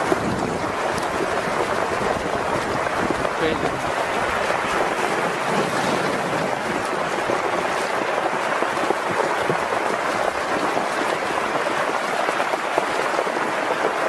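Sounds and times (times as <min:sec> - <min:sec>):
floodwater rushing over road: 0:00.0 - 0:14.0.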